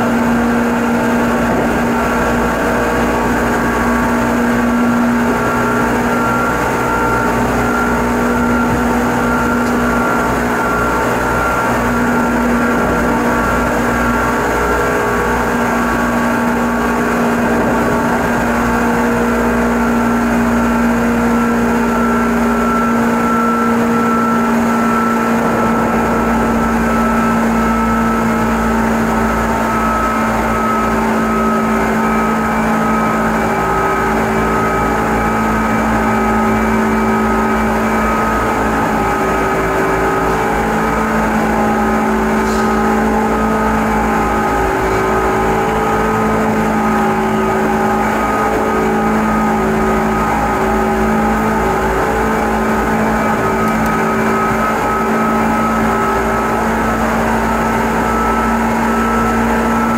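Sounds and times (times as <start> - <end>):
train motor and gear hum: 0.0 - 59.9
wheels rumbling on rails: 0.0 - 59.9.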